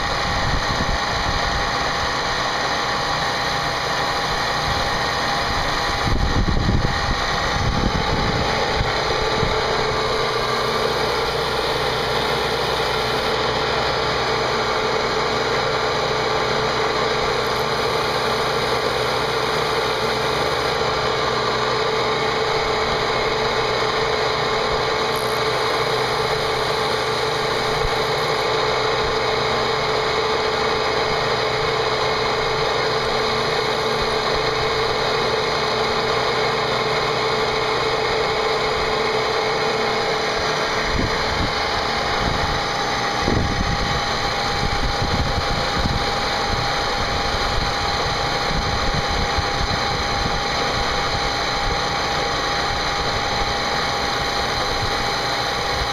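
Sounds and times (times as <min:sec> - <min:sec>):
cnc machine cutter whine: 0:00.0 - 0:55.9.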